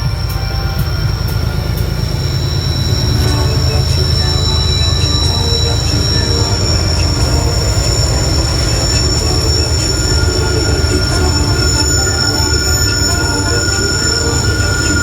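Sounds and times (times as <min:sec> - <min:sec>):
train rolling rumble: 0:00.0 - 0:15.0
train wheel squeal: 0:00.0 - 0:15.0.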